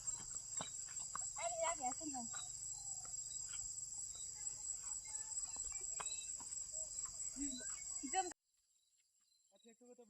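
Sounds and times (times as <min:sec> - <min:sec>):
insects trilling: 0:00.0 - 0:08.3.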